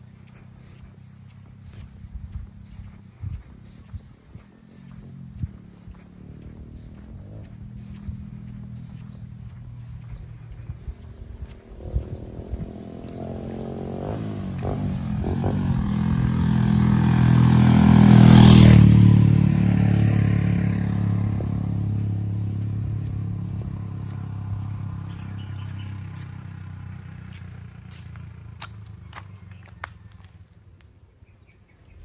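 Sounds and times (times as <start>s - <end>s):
vehicle engine passing by: 0.0s - 30.5s.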